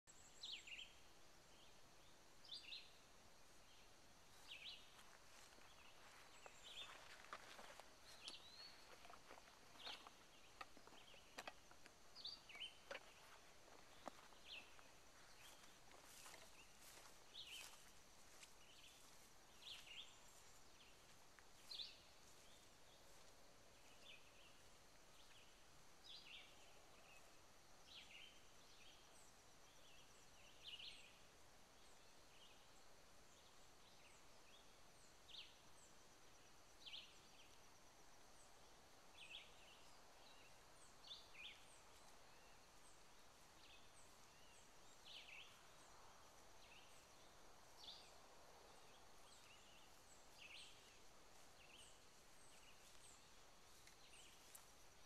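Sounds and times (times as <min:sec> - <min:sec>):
faint birds chirping: 0:00.0 - 0:55.0
faint steady high whine: 0:00.1 - 0:55.0.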